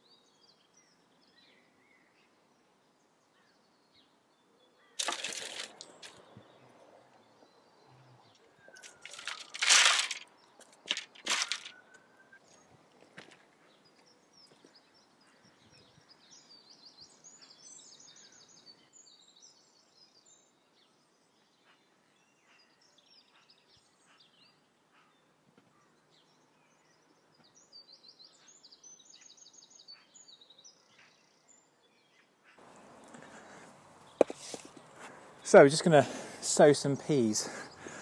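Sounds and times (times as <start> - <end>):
songbird chirping: 0.0 - 38.0.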